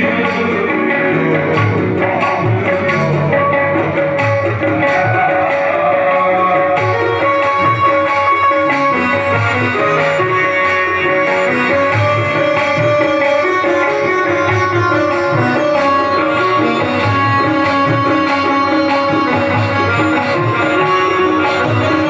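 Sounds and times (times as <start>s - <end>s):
hand drum beat: 0.0s - 22.0s
held melodic notes: 0.0s - 22.0s.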